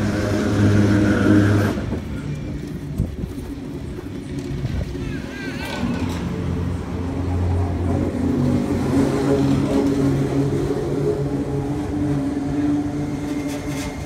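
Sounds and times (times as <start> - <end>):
electric train humming past: 0.0 - 14.0.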